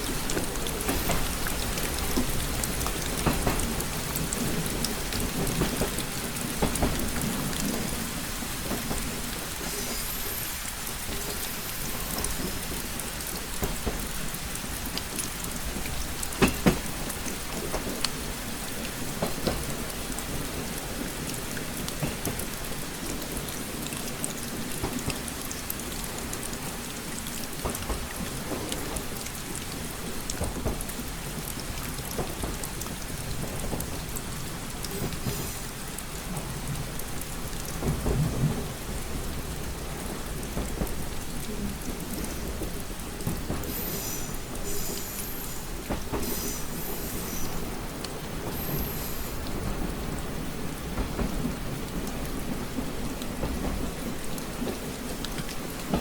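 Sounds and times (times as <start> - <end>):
rain tapping on window glass: 0.0 - 56.0.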